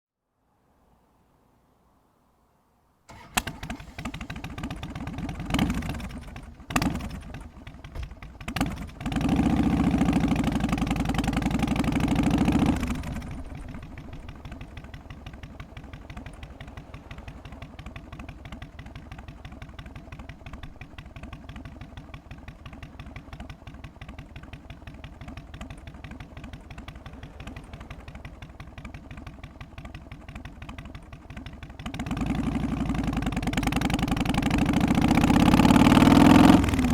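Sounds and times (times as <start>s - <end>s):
motorcycle engine revving and idling: 3.1s - 36.9s.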